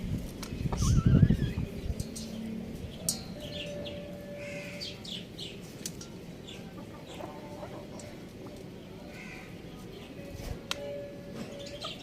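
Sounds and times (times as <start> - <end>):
steady background noise: 0.0 - 12.0
birds chirping: 0.5 - 12.0.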